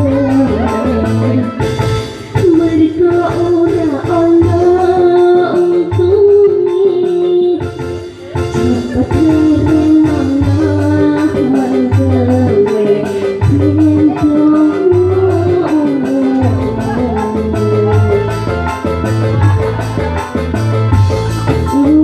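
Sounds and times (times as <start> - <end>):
backing track with drum beat: 0.0 - 22.0
person singing: 0.0 - 22.0.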